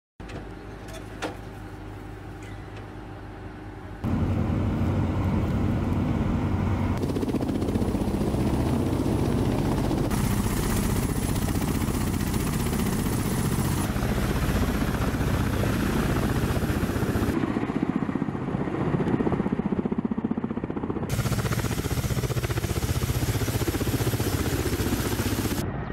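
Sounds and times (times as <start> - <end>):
helicopter rotors beating: 1.7 - 25.9.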